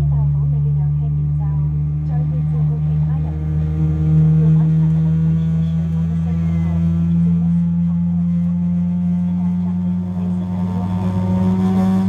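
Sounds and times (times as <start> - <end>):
aircraft cabin low hum: 0.0 - 12.0.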